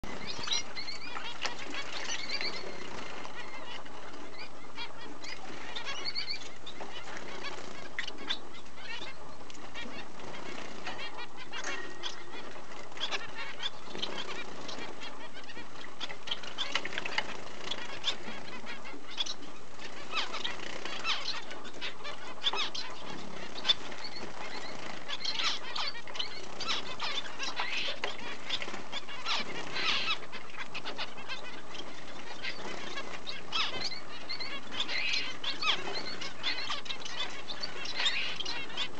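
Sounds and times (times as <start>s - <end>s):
small birds chirping: 0.0s - 38.9s
wings fluttering: 0.0s - 38.9s.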